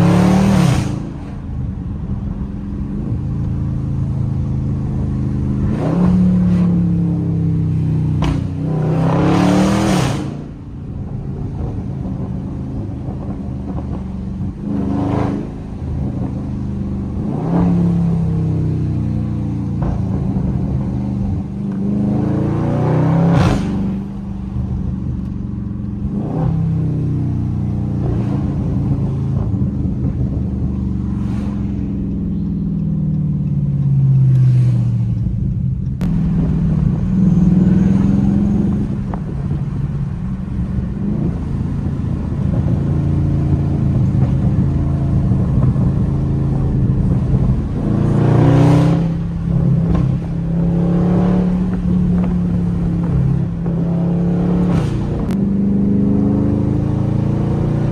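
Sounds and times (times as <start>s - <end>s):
car engine accelerating: 0.0s - 57.9s.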